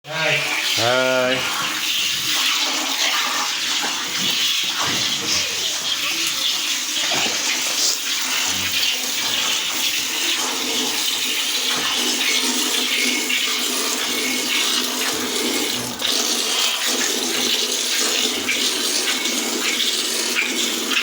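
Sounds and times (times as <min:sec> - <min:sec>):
milk squirting into a pail: 0:00.4 - 0:21.0.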